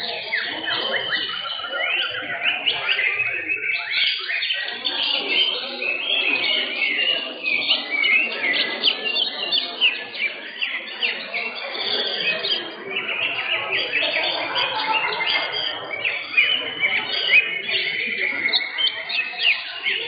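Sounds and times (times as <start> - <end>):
low background murmur: 0.0 - 20.0
songbirds singing high chirps: 0.0 - 20.0.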